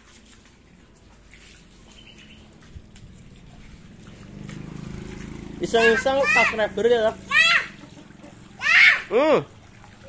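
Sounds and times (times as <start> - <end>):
hose water splashing on paving: 0.0 - 10.0.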